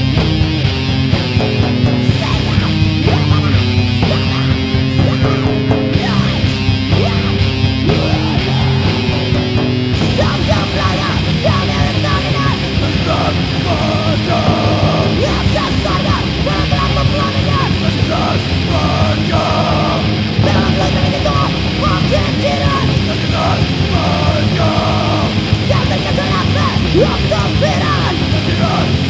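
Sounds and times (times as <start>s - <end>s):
bass: 0.0s - 29.0s
distorted guitars: 0.0s - 29.0s
fast drums: 0.0s - 29.0s
harsh shouted vocals: 1.3s - 29.0s.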